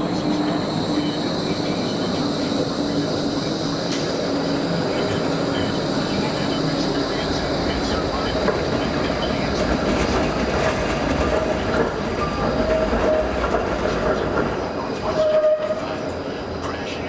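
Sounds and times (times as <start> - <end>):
tram rolling rumble: 0.0 - 17.0
tram wheel squeals: 0.0 - 17.0.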